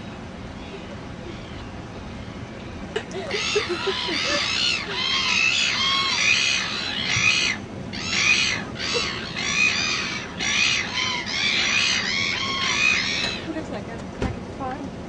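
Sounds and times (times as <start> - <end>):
flock of birds calling: 0.0 - 13.6.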